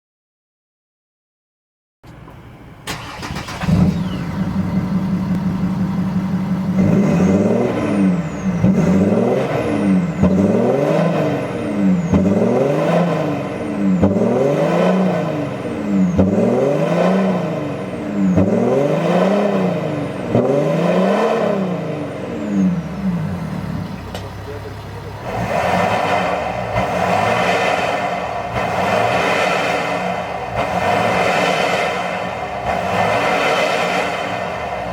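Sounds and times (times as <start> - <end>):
car engine revving: 2.3 - 34.9.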